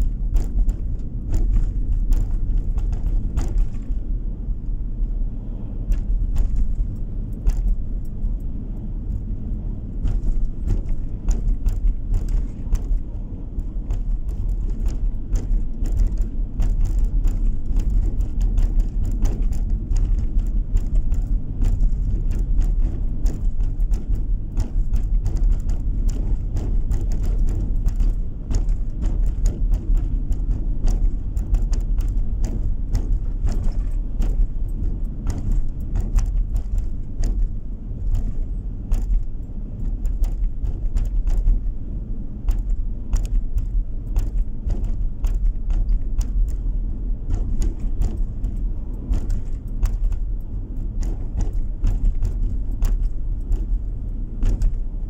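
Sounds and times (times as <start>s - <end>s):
car road noise rumble: 0.0s - 55.0s
rattles inside car: 0.0s - 55.0s.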